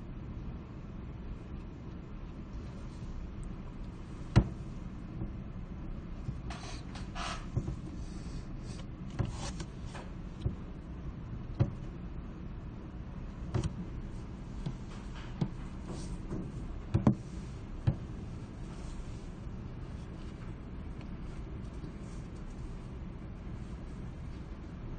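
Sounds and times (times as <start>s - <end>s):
steady low rumble: 0.0s - 24.9s.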